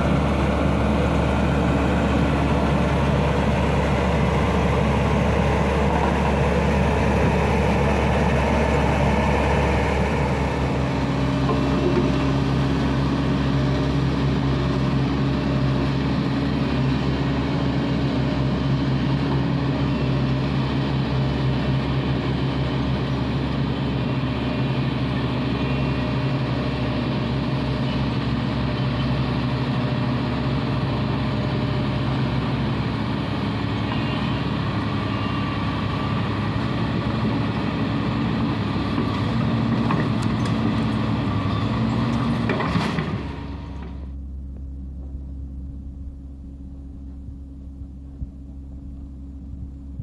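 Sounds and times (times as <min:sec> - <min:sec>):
large diesel engine running: 0:00.0 - 0:50.0.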